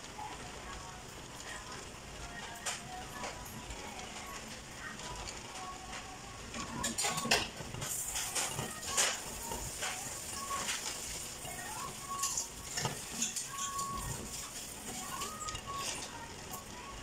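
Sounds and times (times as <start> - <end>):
pot boiling with pops: 0.0 - 17.0.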